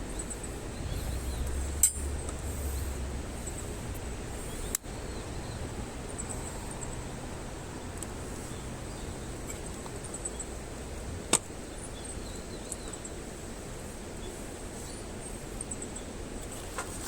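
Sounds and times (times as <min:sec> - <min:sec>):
campfire burning: 0:00.0 - 0:17.0.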